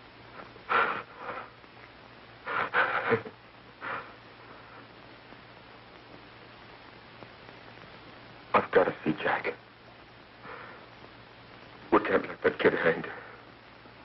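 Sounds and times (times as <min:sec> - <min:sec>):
film soundtrack hiss and hum: 0:00.0 - 0:14.0.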